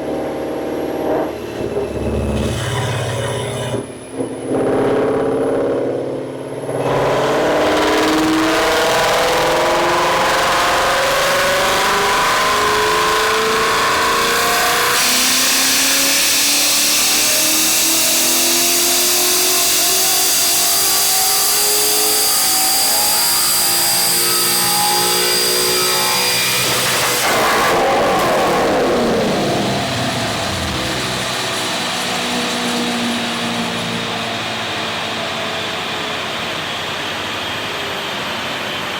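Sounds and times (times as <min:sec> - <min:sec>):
car engine revving at full throttle: 0:00.0 - 0:38.9.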